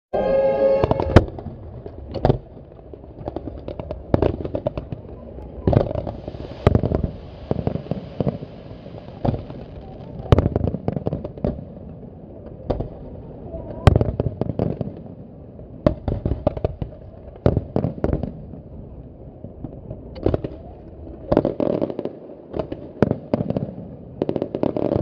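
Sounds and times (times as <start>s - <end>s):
fireworks bangs: 0.1s - 15.2s, 15.8s - 18.7s, 19.6s - 25.0s.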